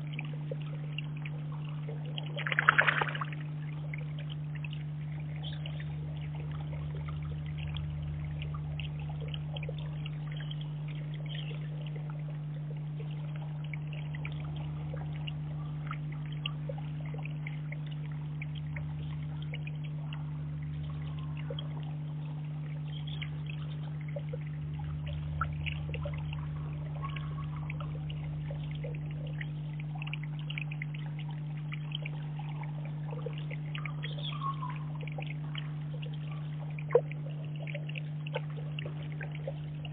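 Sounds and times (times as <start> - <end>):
low hum: 0.0 - 39.9
water trickling in a pond: 0.0 - 39.9.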